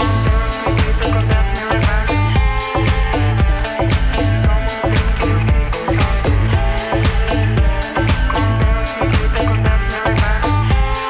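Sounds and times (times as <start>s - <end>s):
instrumental dance music: 0.0s - 11.0s.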